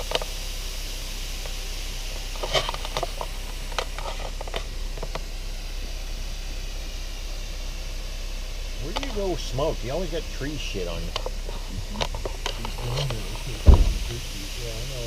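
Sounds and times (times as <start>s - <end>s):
car interior engine and road noise: 0.0s - 15.0s.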